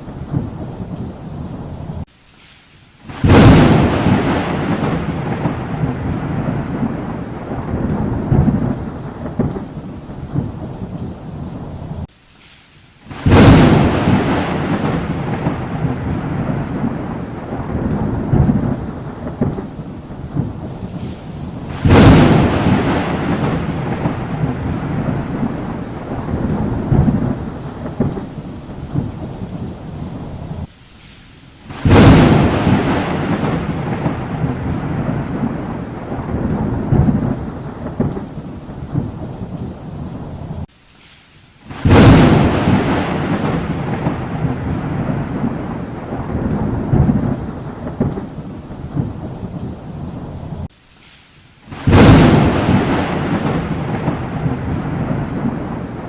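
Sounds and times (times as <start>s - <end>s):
thunderclap with rumble: 0.0s - 2.1s, 3.1s - 12.1s, 13.1s - 30.7s, 31.7s - 40.7s, 41.7s - 50.7s, 51.7s - 56.0s
steady rain: 0.0s - 56.0s.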